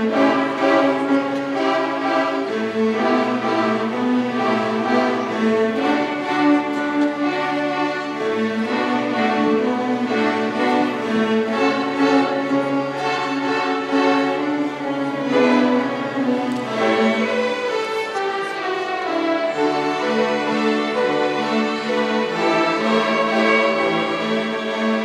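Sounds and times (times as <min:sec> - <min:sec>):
string orchestra playing: 0:00.0 - 0:25.0.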